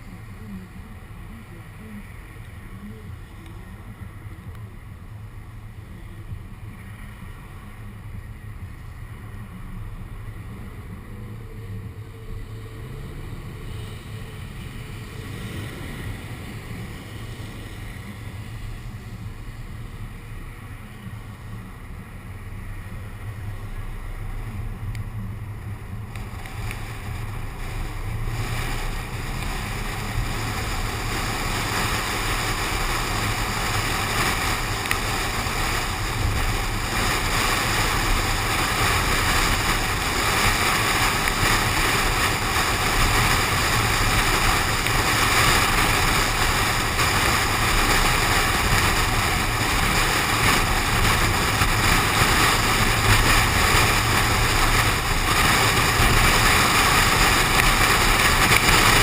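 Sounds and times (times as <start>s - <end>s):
car engine and tyre rumble: 0.0s - 59.0s
wind noise: 6.0s - 59.0s.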